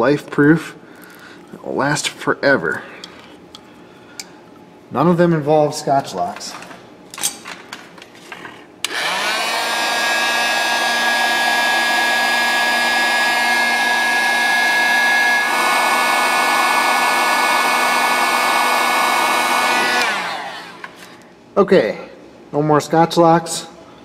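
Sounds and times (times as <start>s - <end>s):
heat gun fan whine: 1.6s - 21.5s.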